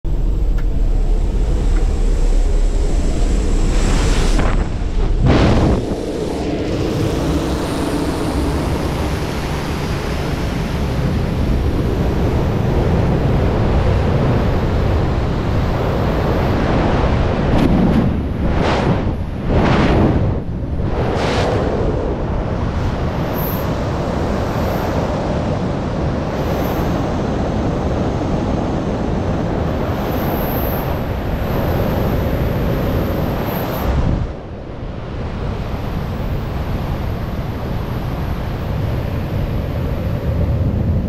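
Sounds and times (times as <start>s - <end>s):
aircraft engine and slipstream: 0.0s - 41.0s
wind rushing over helmet camera: 0.1s - 41.0s.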